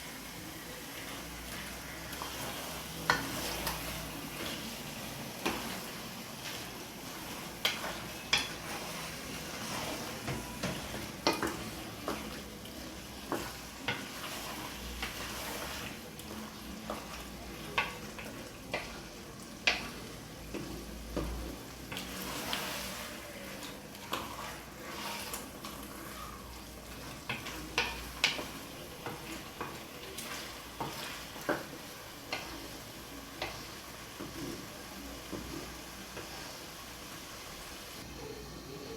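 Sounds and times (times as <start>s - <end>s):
sauce sizzling: 0.0s - 38.9s.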